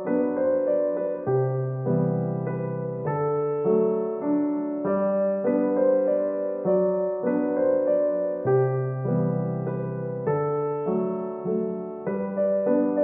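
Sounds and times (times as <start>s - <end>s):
soft piano melody: 0.0s - 13.0s.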